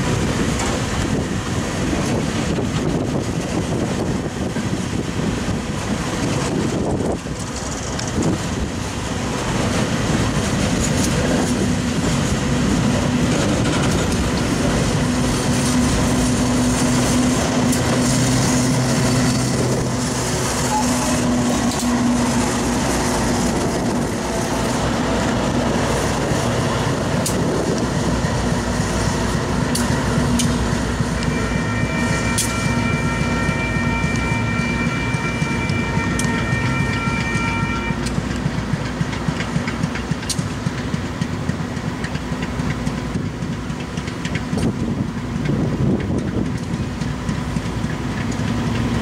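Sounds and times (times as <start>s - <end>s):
freight train passing: 0.0s - 49.0s
wheels clacking over rail joints: 0.0s - 49.0s.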